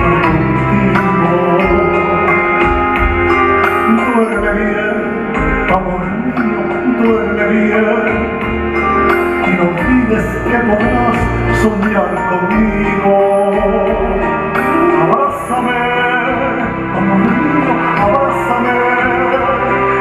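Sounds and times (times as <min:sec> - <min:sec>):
live backing music: 0:00.0 - 0:20.0
man singing a slow ballad: 0:00.0 - 0:20.0.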